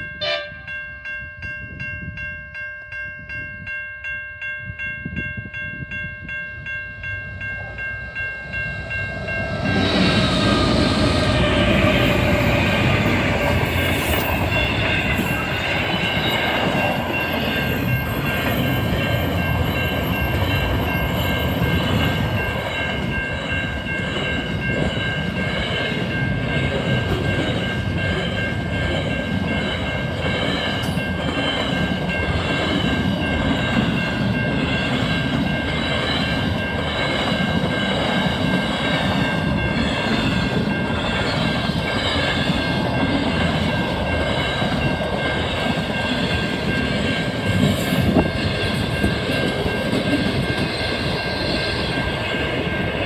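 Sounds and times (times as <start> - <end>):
freight train wheels rumbling on rails: 0.0 - 53.0
high-pitched wheel ringing: 0.0 - 53.0.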